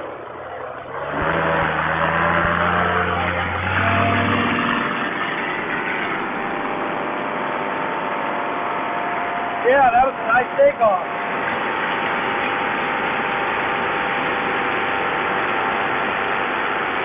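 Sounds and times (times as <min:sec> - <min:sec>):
paramotor engine and propeller: 0:00.0 - 0:17.0.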